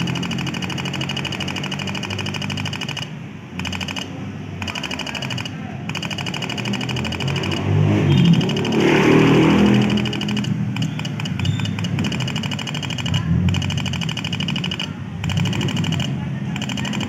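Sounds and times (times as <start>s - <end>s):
relay clicking rapidly: 0.0s - 17.0s
scooter engine running: 0.0s - 17.0s.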